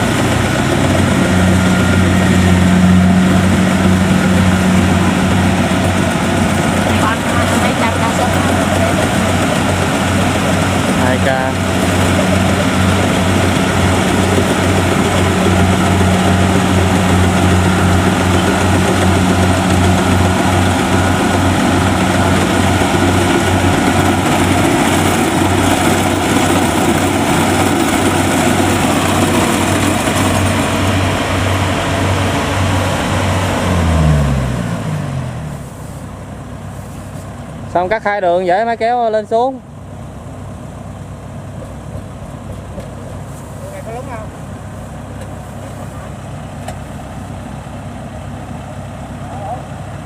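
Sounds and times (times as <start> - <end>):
diesel engine throbbing: 0.0 - 50.0.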